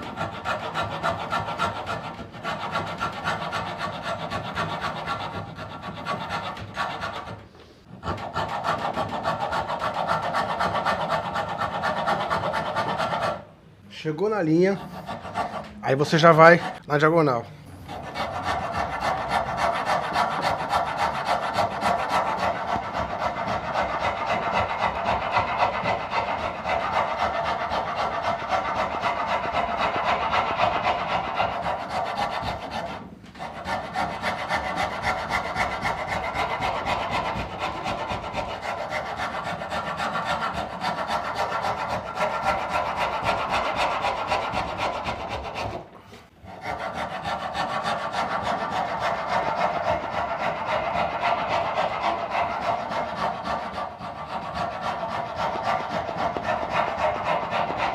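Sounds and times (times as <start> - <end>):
wood rasp scraping: 0.0 - 57.9.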